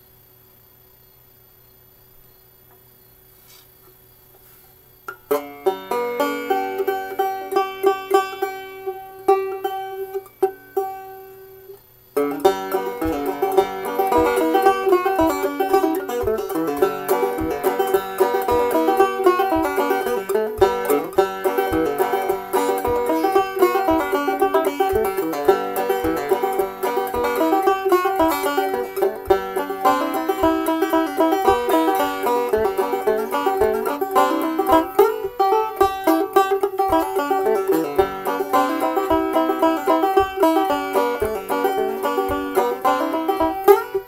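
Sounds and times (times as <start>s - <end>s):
banjo picked notes: 5.1s - 44.0s.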